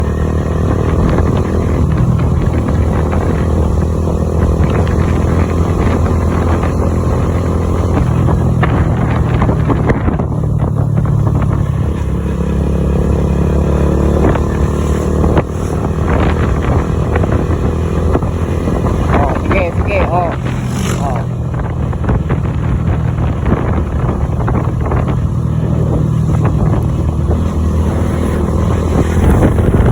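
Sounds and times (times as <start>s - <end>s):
engine droning: 0.0s - 29.9s.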